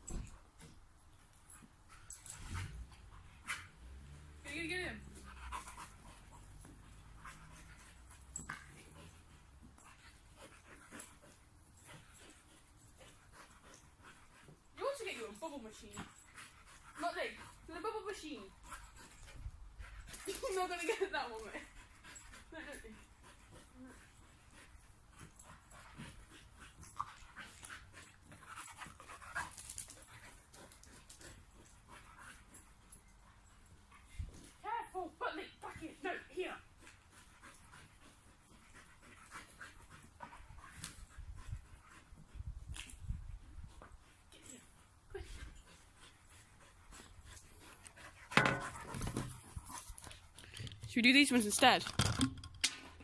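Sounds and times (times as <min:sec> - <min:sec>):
dog panting faintly: 0:00.0 - 0:51.4.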